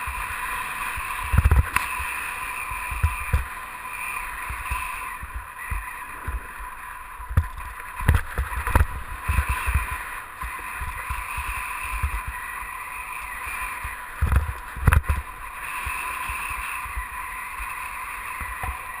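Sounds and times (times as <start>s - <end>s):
skis sliding on snow: 0.0s - 19.0s.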